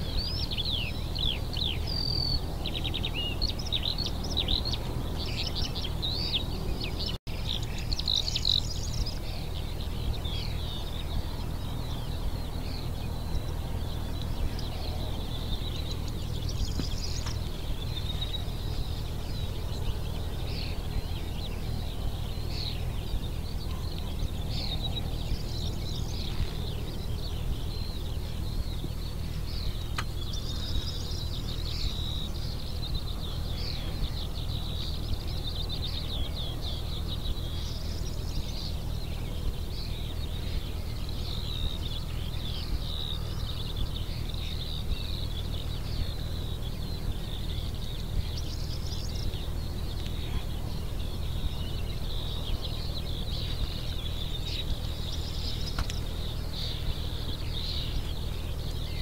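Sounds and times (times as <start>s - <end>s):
low rumble: 0.0s - 59.0s
small birds singing and chirping: 0.0s - 59.0s.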